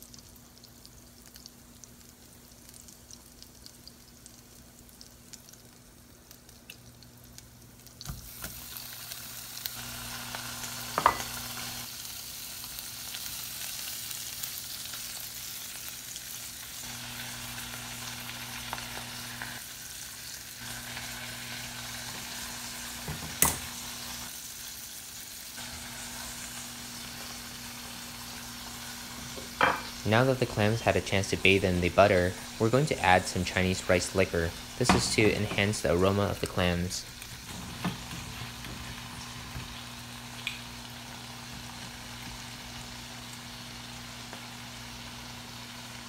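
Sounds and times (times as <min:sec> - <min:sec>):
clams sizzling in hot fat: 0:00.0 - 0:46.0.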